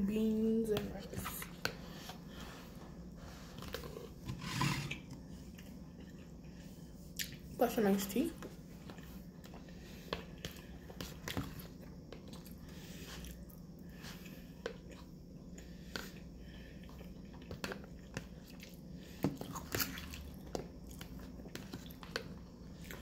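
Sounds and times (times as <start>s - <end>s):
low steady hum: 0.0s - 23.0s
person chewing food: 1.6s - 4.2s, 5.0s - 7.5s, 8.5s - 23.0s.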